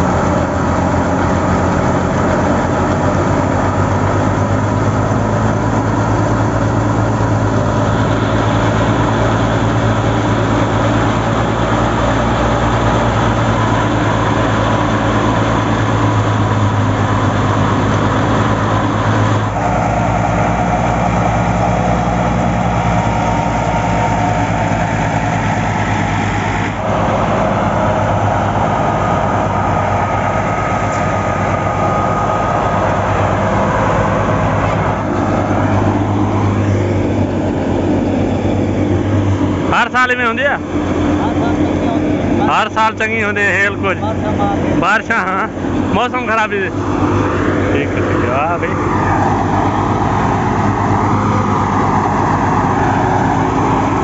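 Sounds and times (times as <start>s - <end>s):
threshing machine running: 0.0s - 54.0s
tractor diesel engine running: 0.0s - 54.0s.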